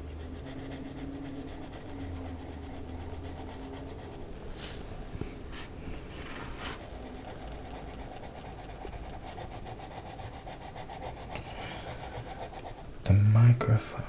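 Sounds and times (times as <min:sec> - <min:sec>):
coloring utensil rubbing paper: 0:00.0 - 0:04.8, 0:06.1 - 0:12.9.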